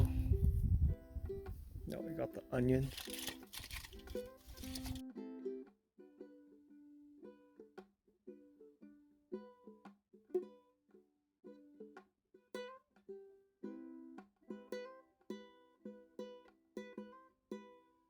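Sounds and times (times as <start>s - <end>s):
ukulele strumming chords: 0.0s - 18.0s.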